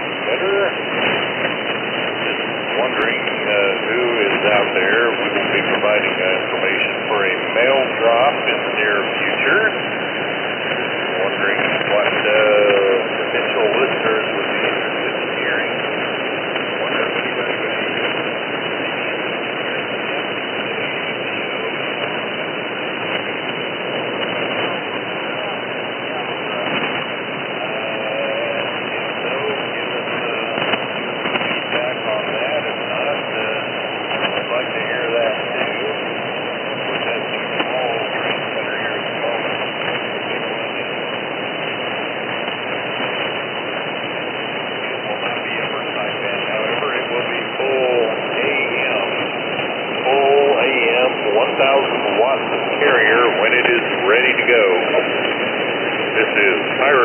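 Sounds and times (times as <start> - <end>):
shortwave radio hiss and static: 0.0 - 57.0.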